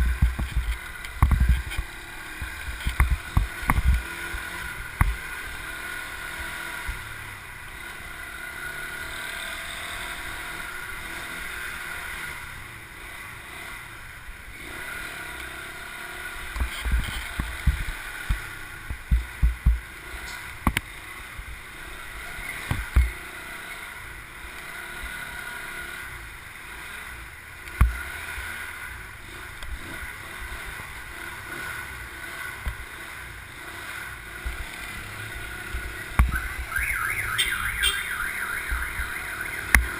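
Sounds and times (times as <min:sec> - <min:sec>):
motorbike running: 0:00.0 - 0:39.9.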